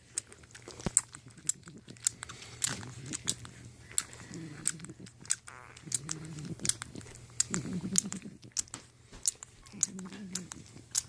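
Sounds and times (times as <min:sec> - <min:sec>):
puppies suckling: 0:00.0 - 0:11.0.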